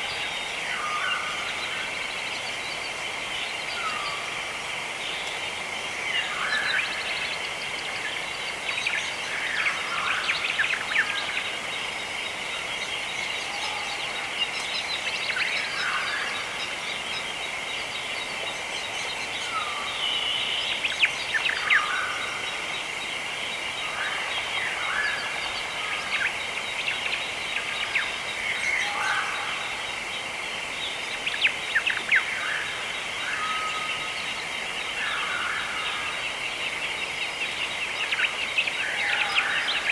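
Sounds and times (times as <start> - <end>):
high-pitched hiss: 0.0 - 39.9
birds chirping: 6.6 - 39.9.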